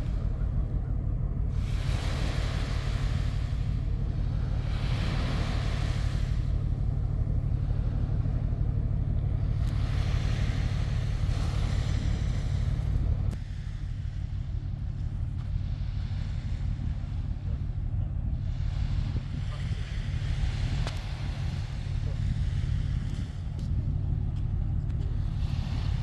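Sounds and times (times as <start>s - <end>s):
large ship rumbling: 0.0s - 26.0s.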